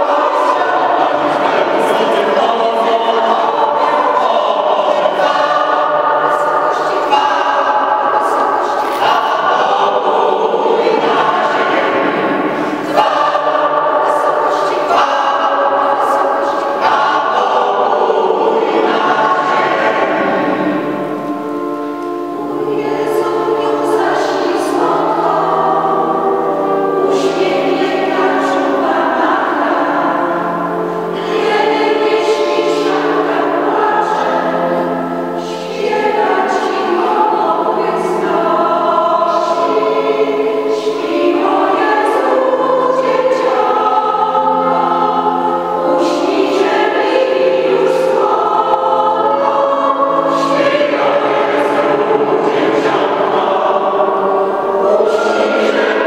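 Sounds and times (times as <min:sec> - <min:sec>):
mixed choir singing a carol: 0:00.0 - 0:56.0.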